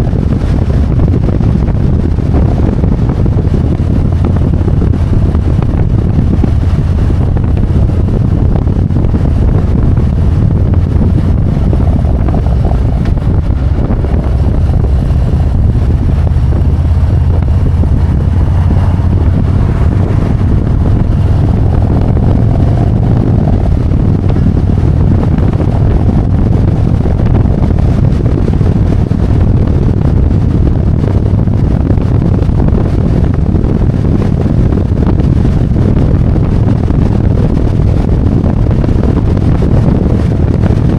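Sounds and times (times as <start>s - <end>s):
motorcycle engine droning: 0.0s - 40.9s
wind noise on microphone: 0.0s - 40.9s.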